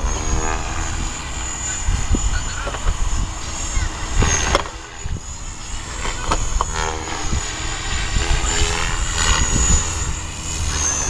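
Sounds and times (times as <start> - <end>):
rc helicopter rotor whine: 0.0 - 11.0
wind buffeting microphone: 0.0 - 11.0.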